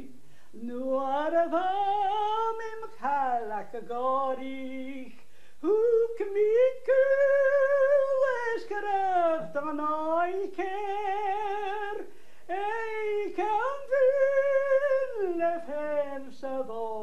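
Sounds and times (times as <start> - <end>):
elderly woman singing: 0.0 - 17.0.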